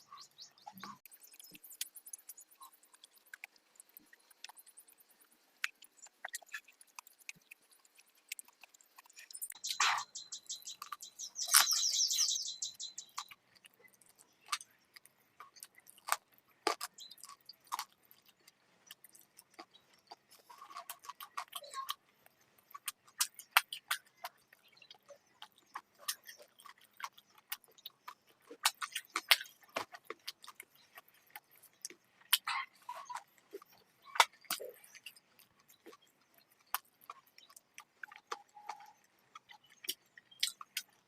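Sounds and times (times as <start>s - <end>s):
close chewing and mouth clicks: 0.0s - 41.0s.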